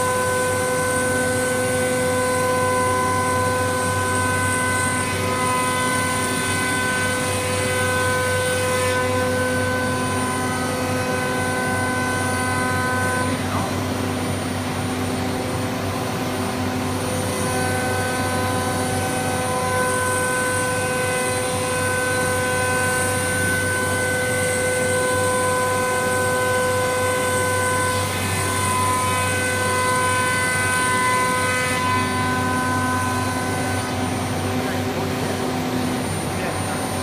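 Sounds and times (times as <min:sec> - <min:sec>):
machinery hum: 0:00.0 - 0:37.0
router machine whining: 0:00.0 - 0:37.0.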